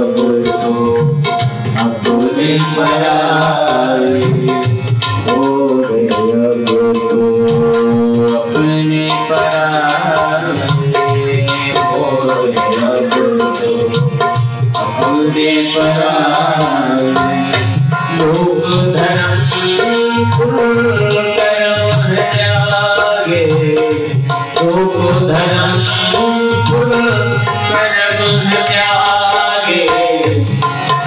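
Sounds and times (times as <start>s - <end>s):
hand drum rhythm: 0.0s - 31.0s
harmonium melody: 0.0s - 31.0s.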